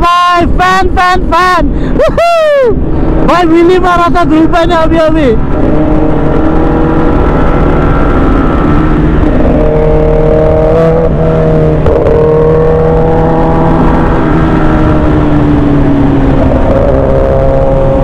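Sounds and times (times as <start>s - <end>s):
motorcycle engines cruising: 0.0s - 18.0s
wind rush: 0.4s - 18.0s.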